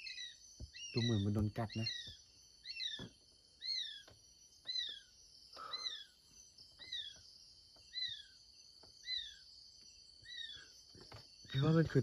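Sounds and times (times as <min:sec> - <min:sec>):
night insects humming: 0:00.0 - 0:12.0.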